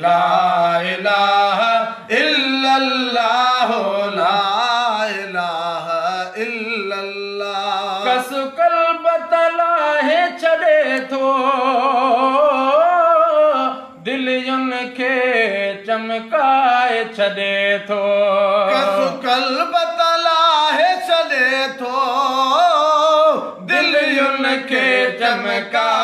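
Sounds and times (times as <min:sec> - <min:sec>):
man singing unaccompanied chant: 0:00.0 - 0:26.0.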